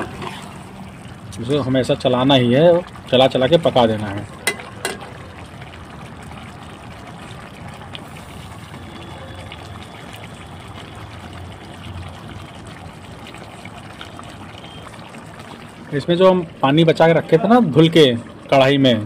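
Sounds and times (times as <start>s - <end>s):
curry bubbling in a pot: 0.0s - 19.0s.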